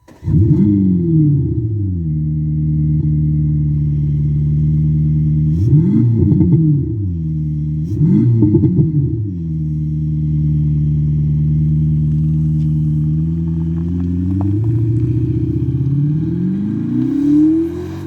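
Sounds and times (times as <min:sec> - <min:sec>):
vehicle engine idling and revving: 0:00.0 - 0:18.0.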